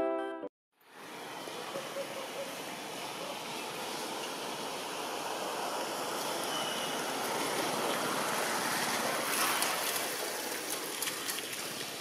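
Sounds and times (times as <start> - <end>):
rushing outdoor background noise: 0.8 - 12.0.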